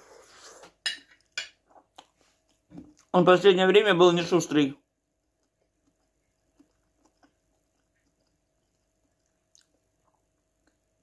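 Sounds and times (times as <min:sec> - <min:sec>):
person chewing softly: 0:00.0 - 0:03.4, 0:04.8 - 0:11.0.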